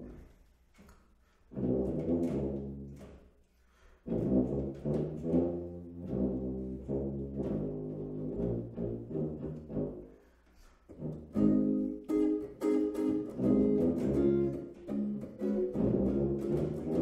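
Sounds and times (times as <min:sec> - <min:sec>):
tuba bass line: 0:00.0 - 0:00.3, 0:01.5 - 0:03.2, 0:04.1 - 0:10.2, 0:10.9 - 0:17.0
small jazz ensemble playing: 0:01.5 - 0:03.4, 0:04.0 - 0:10.2, 0:10.9 - 0:17.0.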